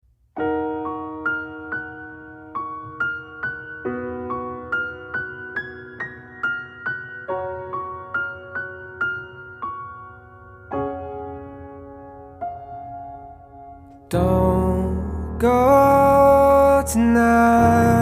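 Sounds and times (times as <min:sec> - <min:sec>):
slow solo piano: 0:00.2 - 0:18.0.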